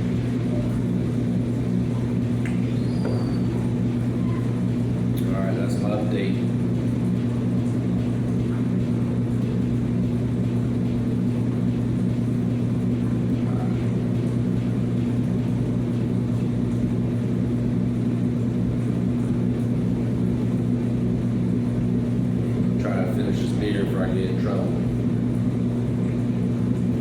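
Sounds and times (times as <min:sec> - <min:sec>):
low mechanical drone: 0:00.0 - 0:27.0.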